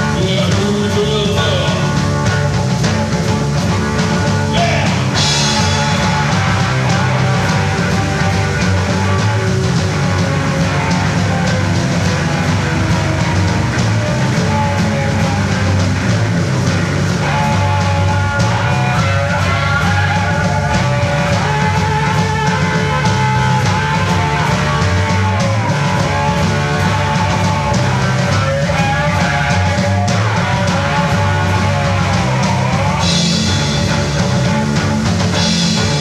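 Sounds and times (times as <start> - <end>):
bass guitar: 0.0 - 36.0
drum kit beat: 0.0 - 36.0
electric slide guitar: 0.0 - 36.0.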